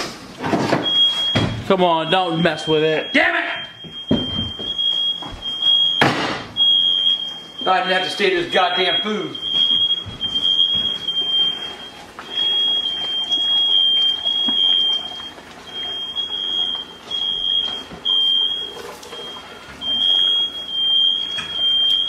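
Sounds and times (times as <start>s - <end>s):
smoke alarm beeping: 0.6s - 22.0s.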